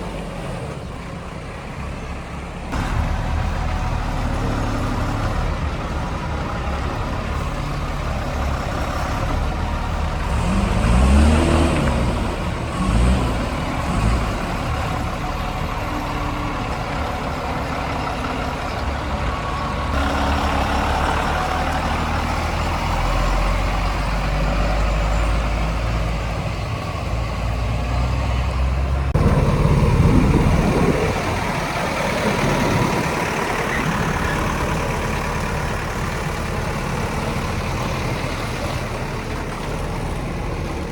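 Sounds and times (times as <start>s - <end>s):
heavy diesel engines revving: 0.0s - 40.9s.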